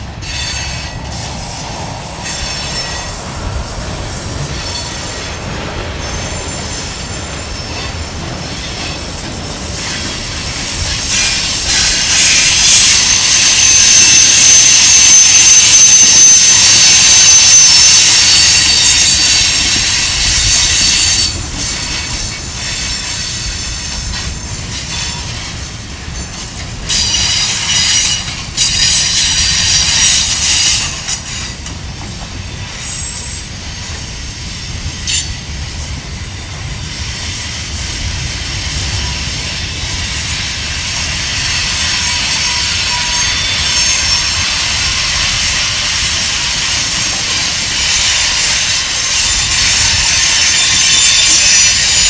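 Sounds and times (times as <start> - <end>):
low rumble of wheels on rail: 0.0 - 52.0
steel wheels squealing: 0.0 - 52.0.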